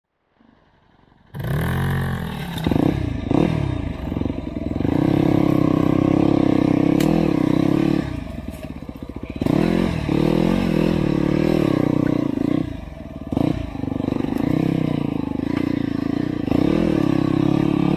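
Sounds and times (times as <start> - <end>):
dirt bike engine revving: 1.3 - 17.9.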